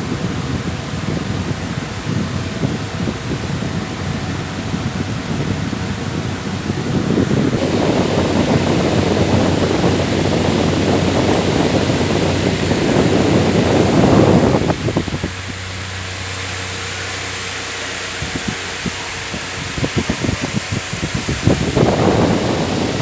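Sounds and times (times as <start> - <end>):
electric fan rushing air: 0.0 - 23.0
fan hum: 0.0 - 23.0.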